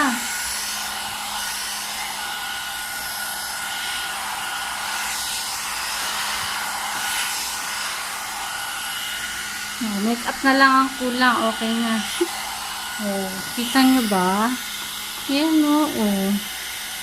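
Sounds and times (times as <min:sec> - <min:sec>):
hot air brush blowing: 0:00.0 - 0:17.0.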